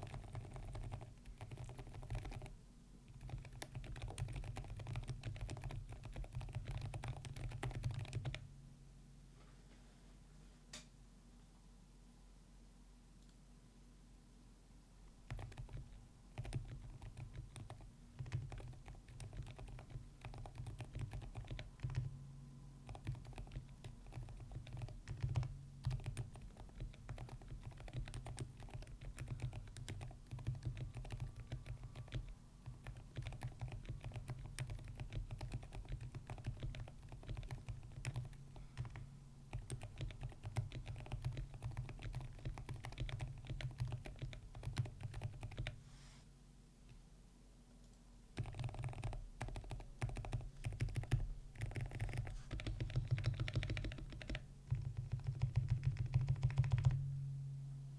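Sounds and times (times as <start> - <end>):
fast typing on keyboard: 0.0 - 8.4, 15.2 - 22.1, 22.8 - 45.8, 48.4 - 57.0.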